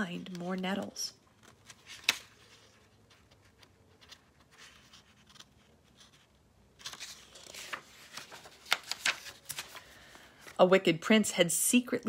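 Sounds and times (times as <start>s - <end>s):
paper book rustling: 0.0s - 10.7s
page turning: 0.1s - 10.6s.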